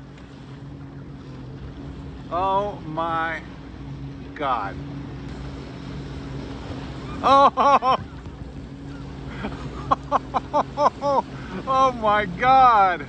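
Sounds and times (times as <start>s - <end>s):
jet ski engine idling: 0.0s - 13.0s.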